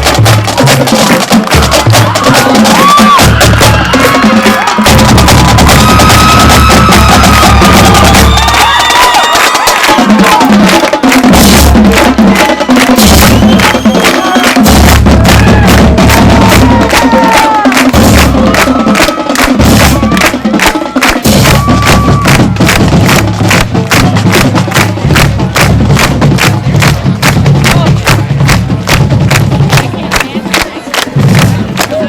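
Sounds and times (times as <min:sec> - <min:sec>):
drumline strikes: 0:00.0 - 0:32.0
marching band playing: 0:00.0 - 0:32.0.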